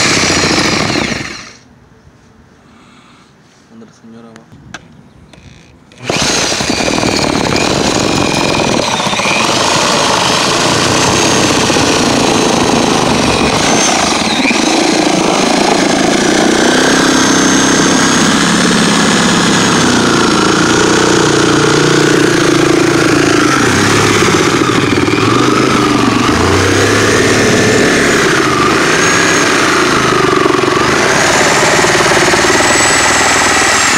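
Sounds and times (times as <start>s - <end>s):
reciprocating saw cutting wood: 0.0s - 1.6s, 5.9s - 33.9s.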